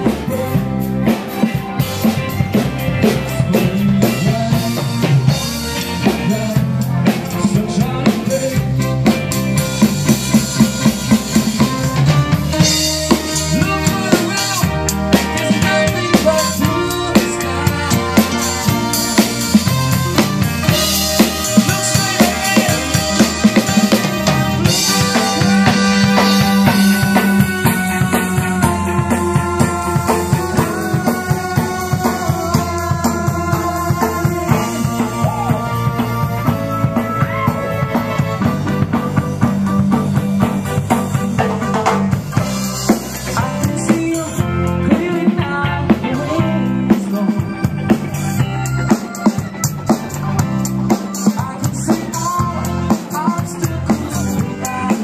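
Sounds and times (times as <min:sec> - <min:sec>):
drum kit beat: 0:00.0 - 0:55.0
guitar: 0:00.0 - 0:55.0
rock band playing: 0:00.0 - 0:55.0.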